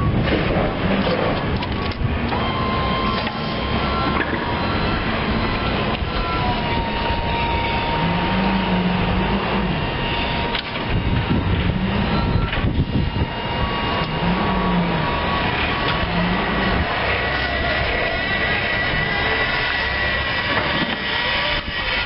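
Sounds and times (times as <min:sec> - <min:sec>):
mower engine running: 0:00.0 - 0:22.0.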